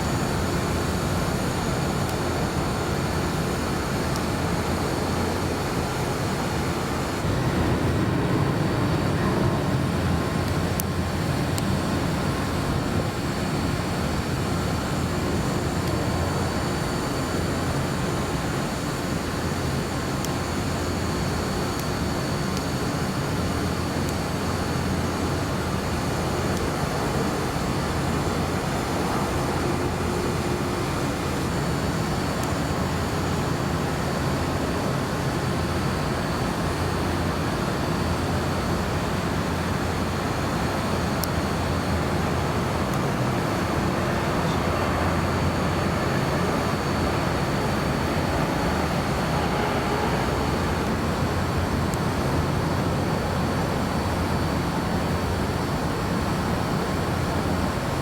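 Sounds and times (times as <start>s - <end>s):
distant jet engines roaring: 0.0s - 58.0s.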